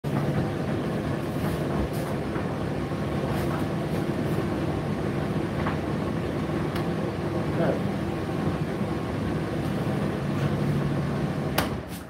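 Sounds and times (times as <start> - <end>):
fan hum: 0.0 - 12.0
tumble dryer drum rumble: 0.0 - 12.0.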